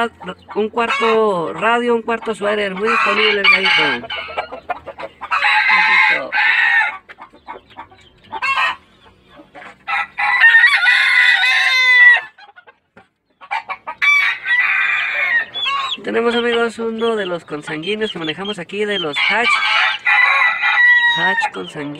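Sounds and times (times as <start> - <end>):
roosters crowing: 0.0 - 12.7, 13.4 - 21.9.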